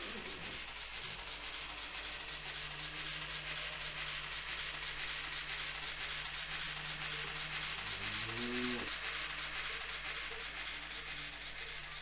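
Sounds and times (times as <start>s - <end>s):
hissing chuff: 0.0s - 12.0s
model train motor hum: 0.0s - 12.0s.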